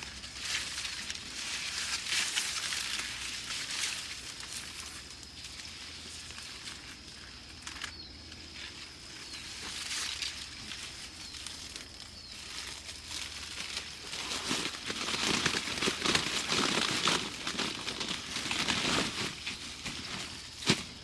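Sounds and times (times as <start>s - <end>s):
dry plants rustling: 0.0s - 21.0s.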